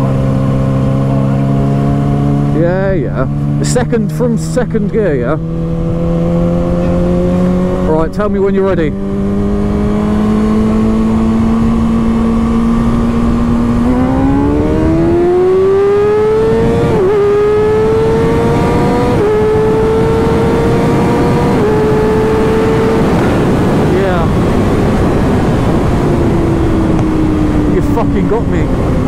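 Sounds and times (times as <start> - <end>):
motorcycle engine accelerating: 0.0 - 29.0
wind rushing over microphone: 0.0 - 29.0.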